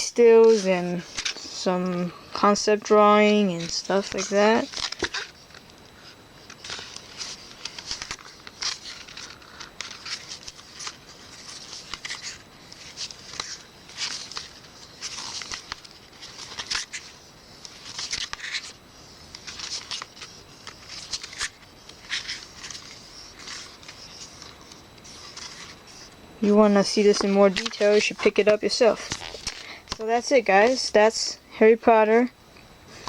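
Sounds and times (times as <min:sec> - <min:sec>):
booklet pages turning: 0:00.2 - 0:01.6, 0:02.5 - 0:30.0.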